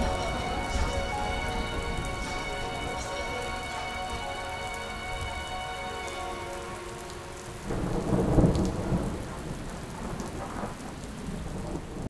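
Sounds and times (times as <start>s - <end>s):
thunder rumble: 0.0s - 5.5s, 6.6s - 12.0s
heavy rain falling: 0.0s - 12.0s.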